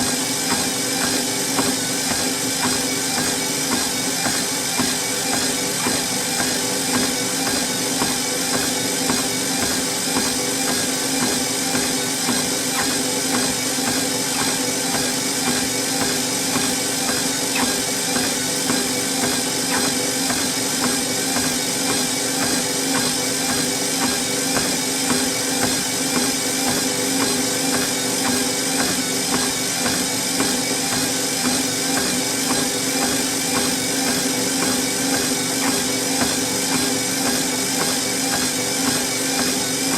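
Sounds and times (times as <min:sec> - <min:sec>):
footsteps on treadmill belt: 0:00.0 - 0:39.9
treadmill belt and motor hum: 0:00.0 - 0:39.9.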